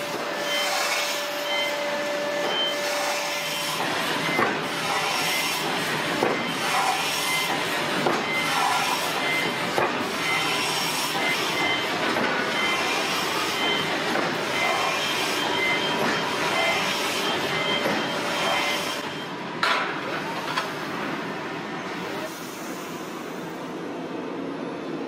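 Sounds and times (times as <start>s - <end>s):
forge machinery din: 0.0s - 20.4s.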